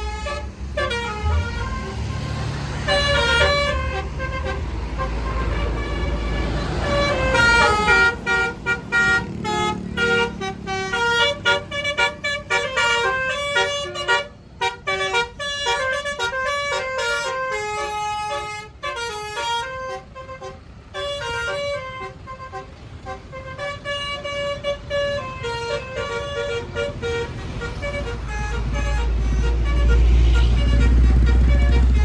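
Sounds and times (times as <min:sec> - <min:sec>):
musical bus horn tooting a tune: 0:00.0 - 0:32.0.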